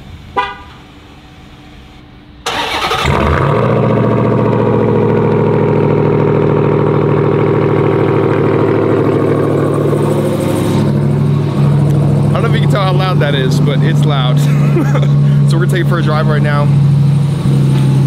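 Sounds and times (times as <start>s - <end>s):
engine starting and idling loudly: 2.4s - 18.0s.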